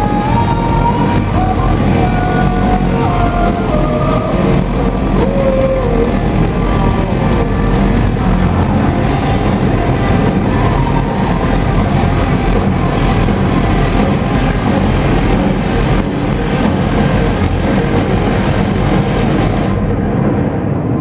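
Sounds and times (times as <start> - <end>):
bending lead guitar line: 0.0 - 19.8
live rock band playing: 0.0 - 19.8
cymbals: 0.0 - 20.7.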